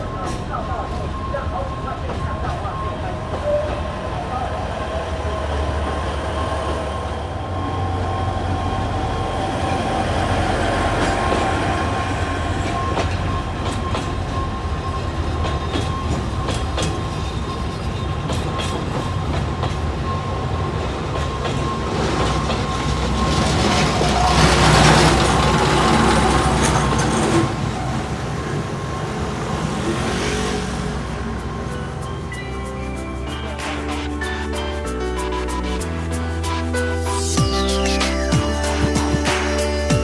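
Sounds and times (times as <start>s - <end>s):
wheels clicking over track: 0.0s - 35.8s
train rumbling on rails: 0.0s - 40.0s.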